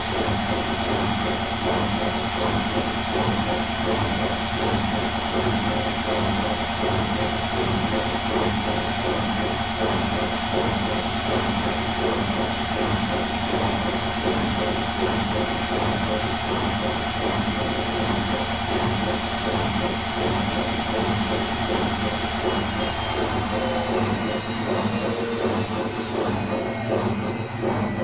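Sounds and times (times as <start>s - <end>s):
washing machine motor drone: 0.0s - 28.0s.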